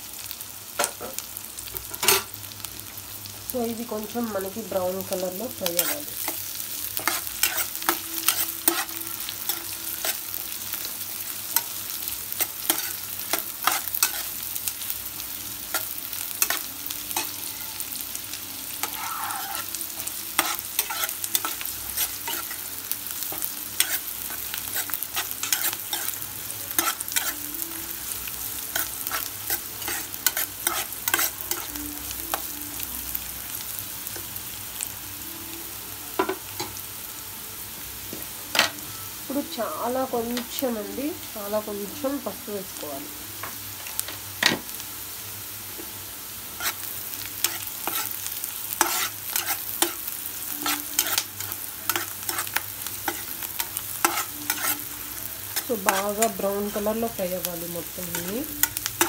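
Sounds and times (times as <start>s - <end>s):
onions sizzling in hot oil: 0.0s - 59.0s.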